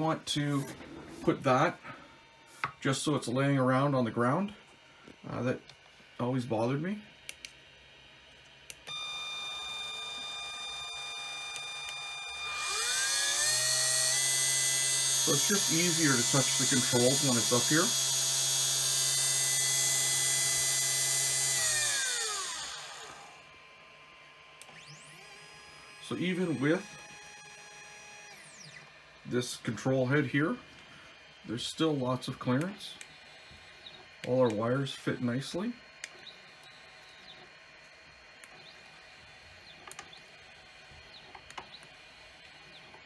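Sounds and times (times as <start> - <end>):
spindle motor whining: 8.0 - 43.0.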